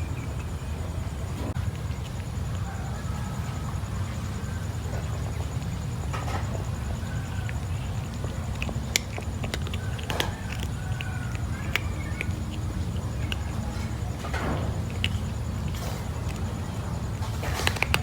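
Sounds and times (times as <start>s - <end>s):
kitten eating wet clicks: 0.0s - 18.0s.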